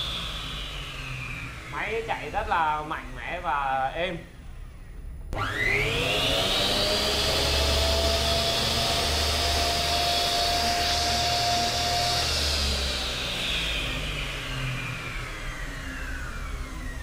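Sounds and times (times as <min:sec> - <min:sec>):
miter saw motor whine: 0:00.0 - 0:03.6, 0:05.4 - 0:17.0.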